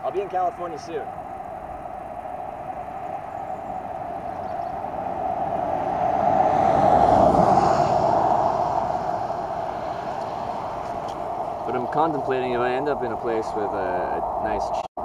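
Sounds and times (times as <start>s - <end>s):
road vehicle passing by: 0.4s - 13.8s.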